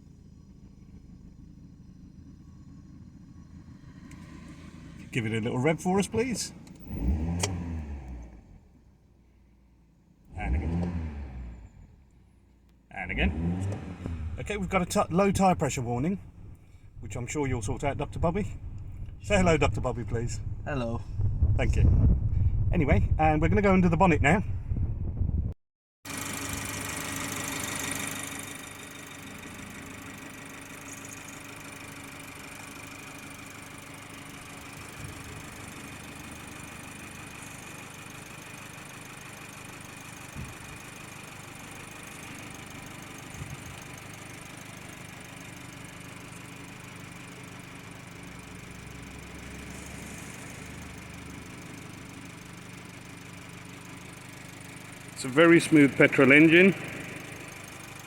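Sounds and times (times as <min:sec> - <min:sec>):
car engine idling: 0:00.0 - 0:24.4, 0:26.1 - 0:58.0.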